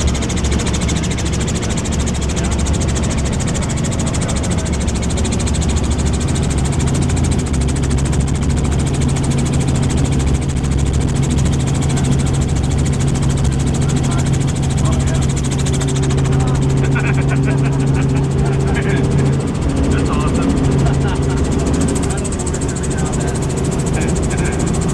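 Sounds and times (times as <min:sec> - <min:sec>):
helicopter engine and rotor: 0:00.0 - 0:24.9
steady low hum: 0:00.0 - 0:24.9.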